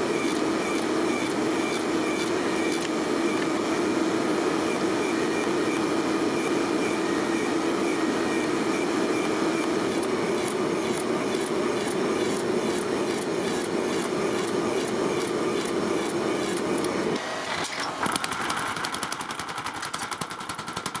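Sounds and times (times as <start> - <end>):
workshop machine running: 0.0 - 21.0.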